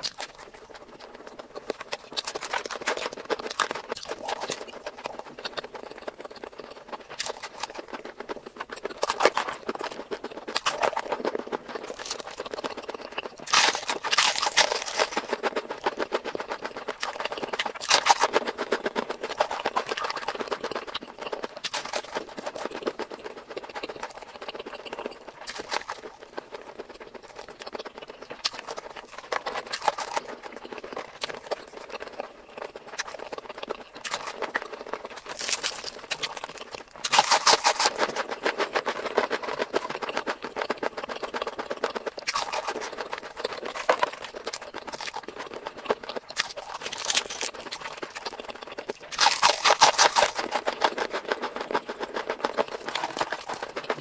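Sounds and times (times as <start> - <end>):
chewing and mouth smacks: 0.0 - 54.0.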